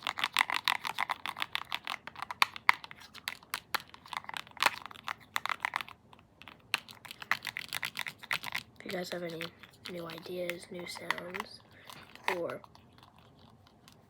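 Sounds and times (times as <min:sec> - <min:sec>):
clicky toys clicking: 0:00.0 - 0:14.0.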